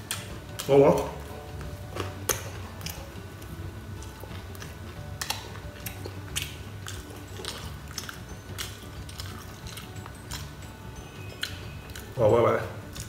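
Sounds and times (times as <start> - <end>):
person chewing crunchy food: 0.0 - 12.2, 12.8 - 13.0.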